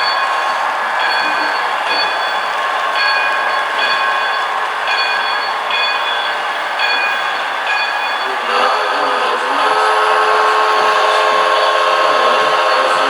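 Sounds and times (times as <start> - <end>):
model train whirring hiss: 0.0 - 13.0.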